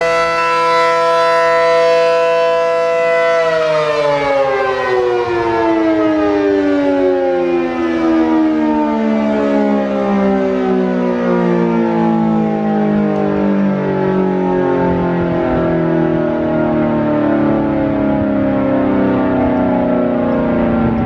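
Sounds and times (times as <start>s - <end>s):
warning siren winding down: 0.0s - 21.0s.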